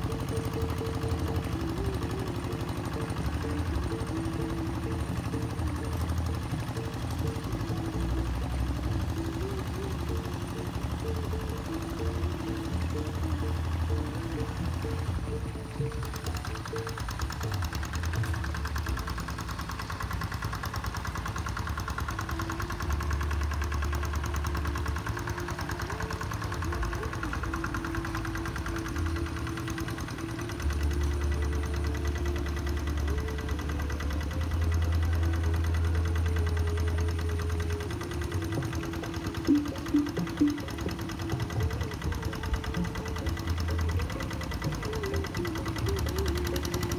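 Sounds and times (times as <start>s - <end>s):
diesel engine knocking: 0.0s - 46.9s.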